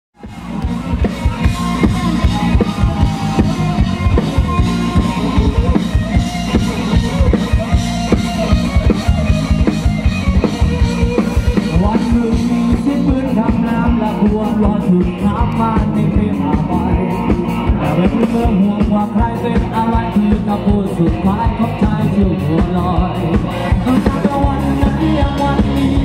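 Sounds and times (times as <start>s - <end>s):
electric guitar bending notes: 0.2s - 26.0s
fast drum-kit beats: 0.2s - 26.0s.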